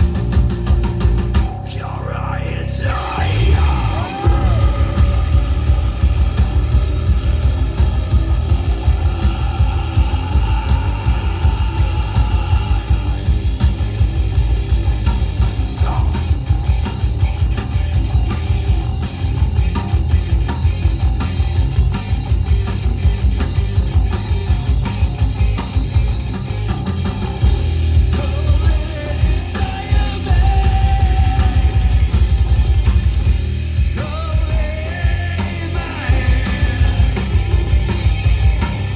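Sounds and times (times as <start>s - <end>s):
fast drums: 0.0s - 1.7s, 3.4s - 38.9s
metal band playing live: 0.0s - 38.9s.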